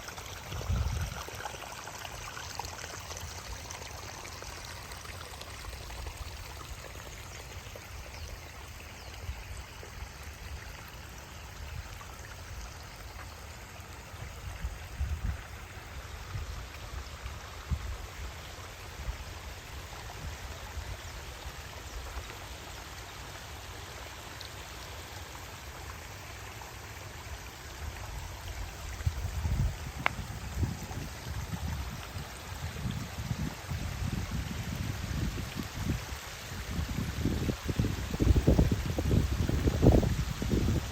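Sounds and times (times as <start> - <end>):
waterfall and stream flowing: 0.0 - 40.9.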